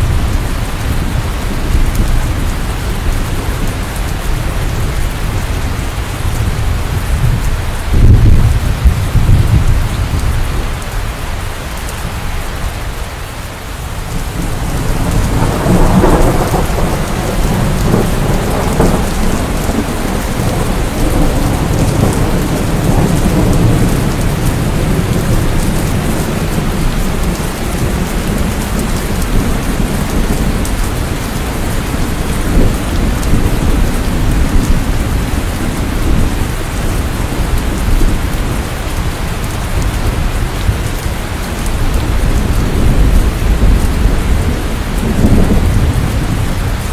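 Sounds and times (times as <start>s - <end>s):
rolling thunder: 0.0s - 11.0s, 13.9s - 46.9s
rain falling: 0.0s - 46.9s.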